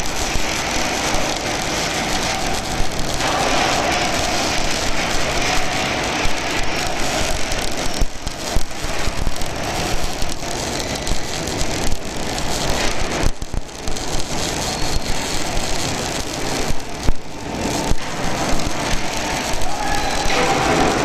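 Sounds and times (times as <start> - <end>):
welding arc crackling: 0.0 - 21.0.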